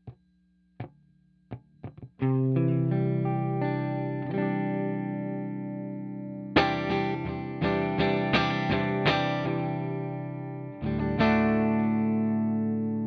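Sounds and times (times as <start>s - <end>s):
muted guitar picks: 0.0s - 13.0s
electric guitar chord ringing: 1.8s - 13.0s.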